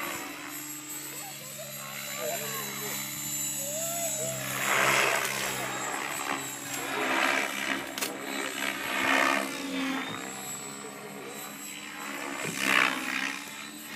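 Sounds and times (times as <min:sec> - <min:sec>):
helicopter motor and rotor hum: 0:00.0 - 0:13.9.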